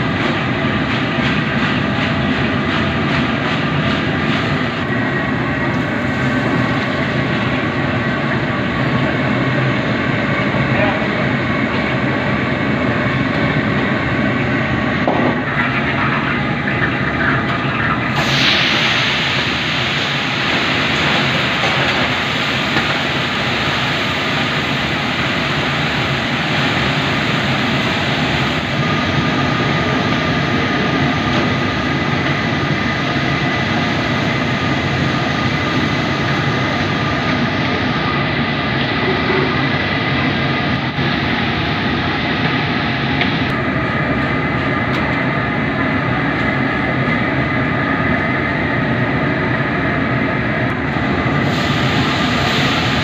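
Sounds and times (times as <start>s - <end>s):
wok burner roaring: 0.0s - 53.0s.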